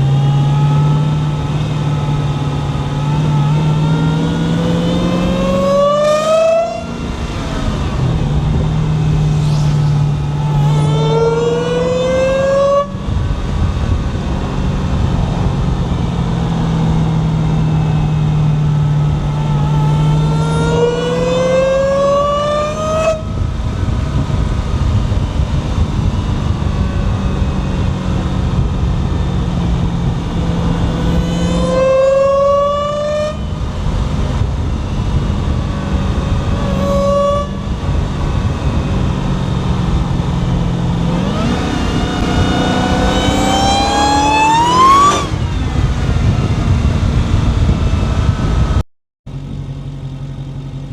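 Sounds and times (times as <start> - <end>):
wind noise: 0.0 - 48.8
car engine droning: 0.0 - 50.9
supercharger whine: 0.0 - 50.9.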